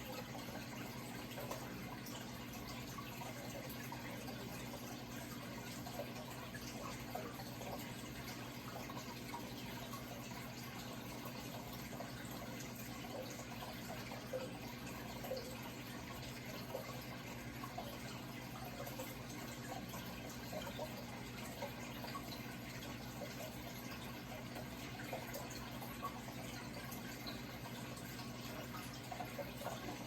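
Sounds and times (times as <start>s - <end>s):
low steady hum: 0.0s - 30.0s
running water trickling: 0.0s - 30.0s
water drips and splashes: 0.0s - 30.0s.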